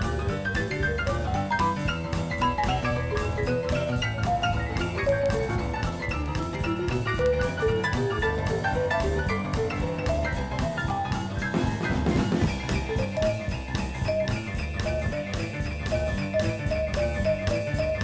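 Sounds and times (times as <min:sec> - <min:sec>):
background music with drum beat: 0:00.0 - 0:18.0.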